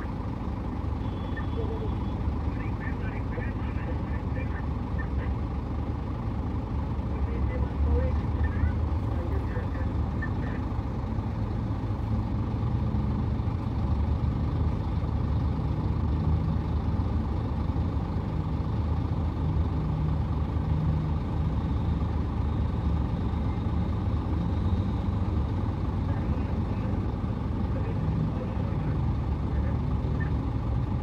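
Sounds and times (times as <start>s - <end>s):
bulldozer running: 0.0s - 31.0s
excavator engine rumble: 0.0s - 31.0s.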